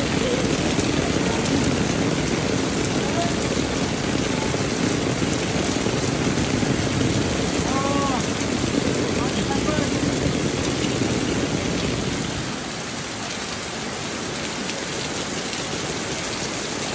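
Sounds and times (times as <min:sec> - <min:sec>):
heavy rain on wet pavement: 0:00.0 - 0:16.9.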